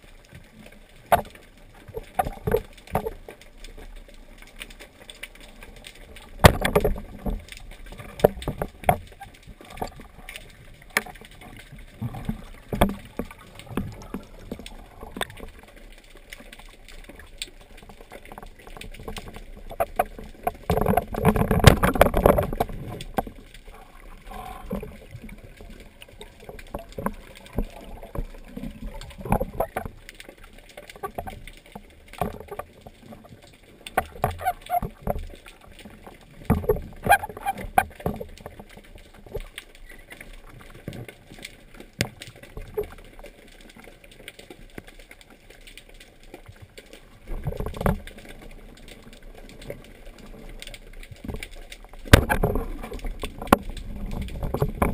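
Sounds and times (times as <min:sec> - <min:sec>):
water swishing underwater: 0:00.0 - 0:54.9
knocks and gurgling bursts: 0:01.0 - 0:03.3, 0:06.1 - 0:15.7, 0:16.5 - 0:43.2, 0:46.6 - 0:54.9.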